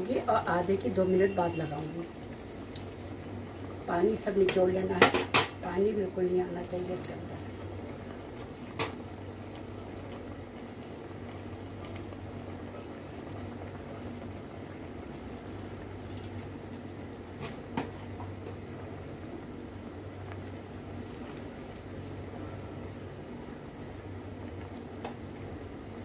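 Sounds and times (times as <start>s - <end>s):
water boiling: 0.0s - 26.0s.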